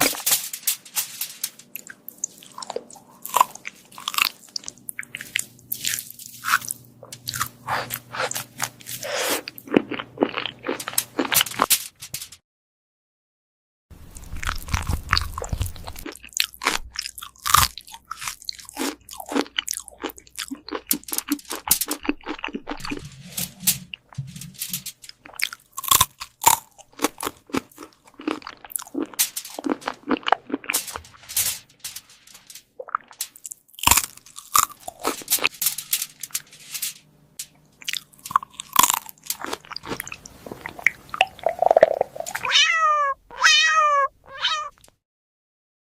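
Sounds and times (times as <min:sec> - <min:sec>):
cat crunching food: 0:00.0 - 0:11.7, 0:14.0 - 0:31.3, 0:32.1 - 0:35.6, 0:37.8 - 0:42.6.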